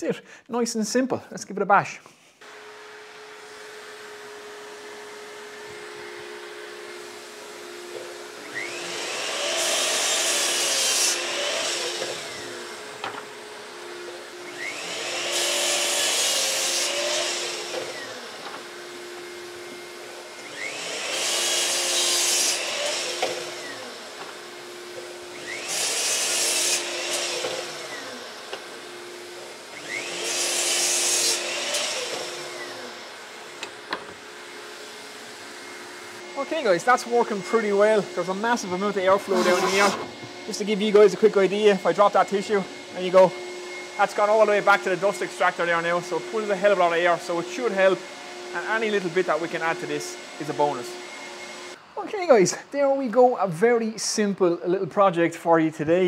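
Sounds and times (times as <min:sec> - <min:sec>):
mitre saw cutting wood: 0:02.4 - 0:51.8
dust extractor droning: 0:02.4 - 0:53.1.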